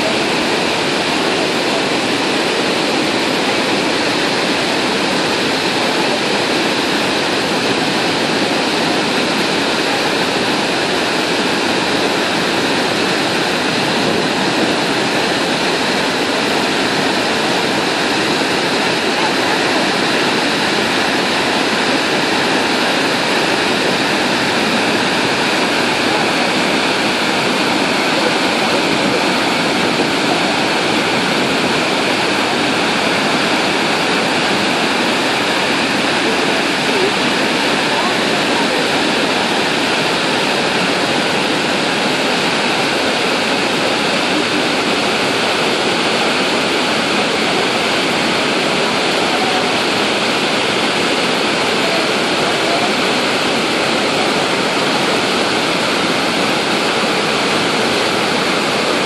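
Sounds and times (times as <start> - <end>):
waterfalls rushing: 0.0 - 59.0.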